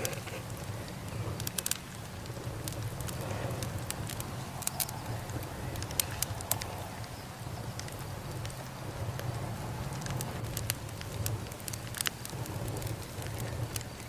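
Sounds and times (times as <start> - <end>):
burning wood crackling: 0.0 - 14.0.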